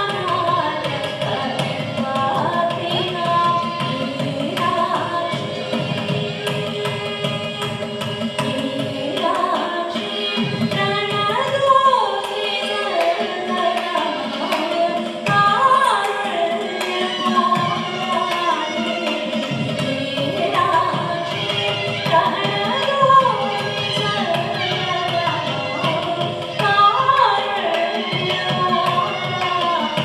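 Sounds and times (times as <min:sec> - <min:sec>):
violin: 0:00.0 - 0:30.0
woman singing: 0:00.0 - 0:30.0.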